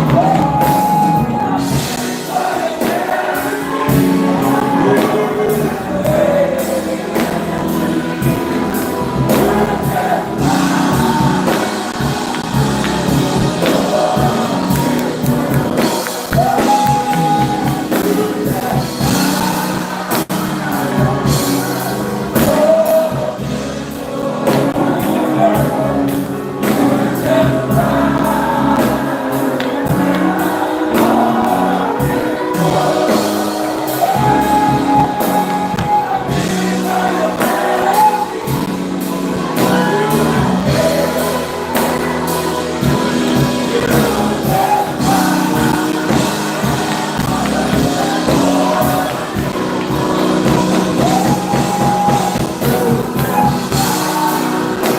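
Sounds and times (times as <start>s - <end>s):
drum beat: 0.0s - 23.6s, 24.4s - 54.9s
bass notes: 0.0s - 54.9s
gospel singing: 0.0s - 54.9s.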